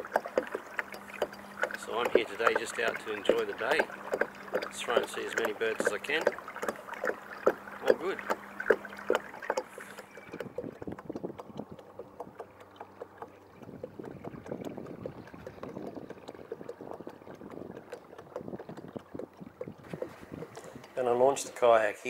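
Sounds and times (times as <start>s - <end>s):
faint steady hum: 0.0s - 22.0s
water lapping against kayak: 0.0s - 22.0s.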